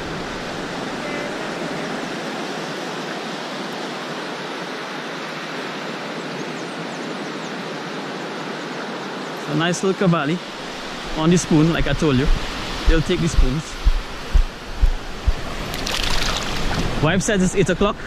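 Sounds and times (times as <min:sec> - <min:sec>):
surf washing ashore: 0:00.0 - 0:18.0.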